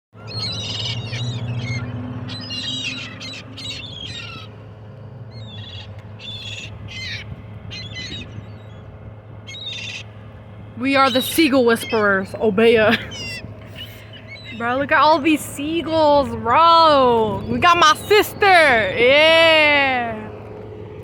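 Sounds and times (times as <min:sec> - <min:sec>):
seagulls calling: 0:00.2 - 0:20.4
steady low hum: 0:00.2 - 0:21.0.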